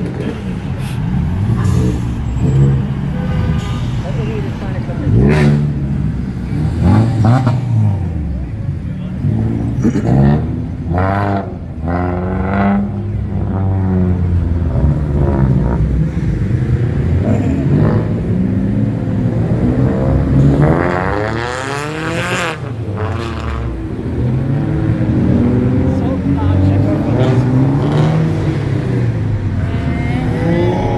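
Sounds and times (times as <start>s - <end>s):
car engine revving: 0.0s - 30.9s
cars driving past: 0.0s - 30.9s.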